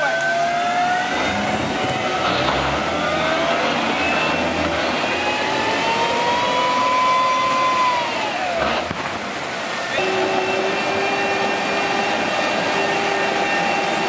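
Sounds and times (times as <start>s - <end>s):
tank engine high whine: 0.0s - 14.0s
churning rumble in mud: 0.9s - 14.0s.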